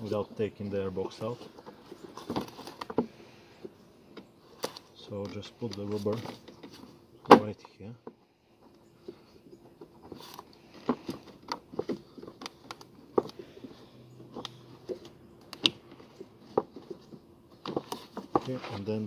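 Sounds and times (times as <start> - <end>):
plastic scraping and creaking: 0.4 - 19.0.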